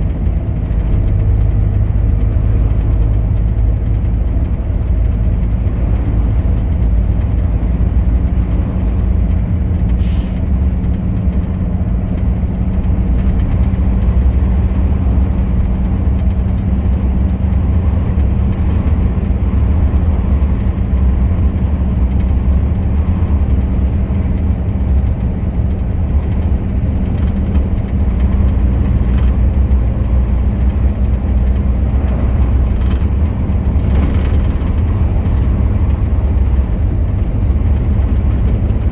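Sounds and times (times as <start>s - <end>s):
road noise: 0.0s - 38.9s
truck engine droning: 0.0s - 38.9s.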